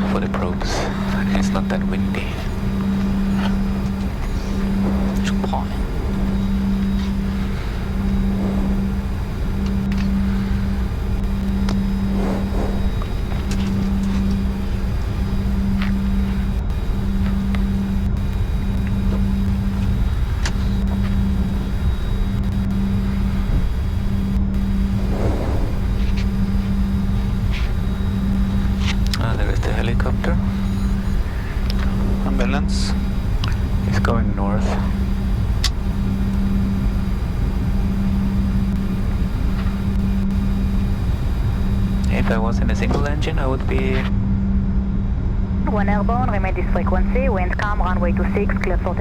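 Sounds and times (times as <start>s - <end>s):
jet engines idling: 0.0s - 49.0s.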